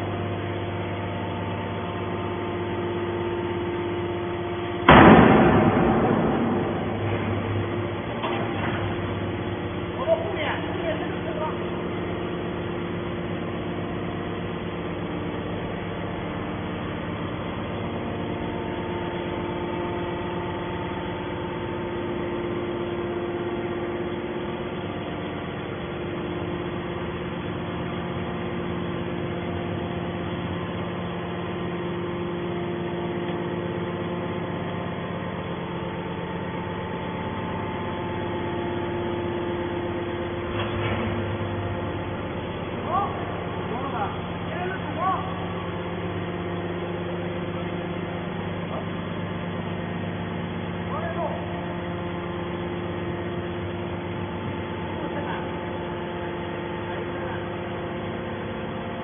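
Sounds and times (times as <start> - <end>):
hydraulic motor and pump hum: 0.0 - 59.0.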